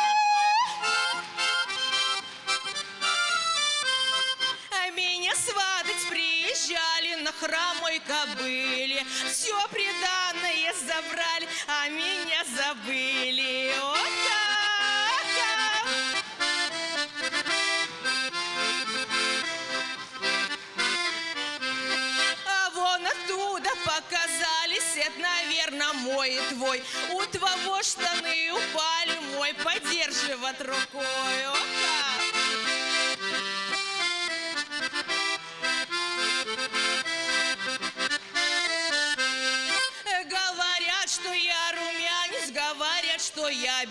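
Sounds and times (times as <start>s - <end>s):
accordion playing folk dance tune: 0.0s - 43.9s.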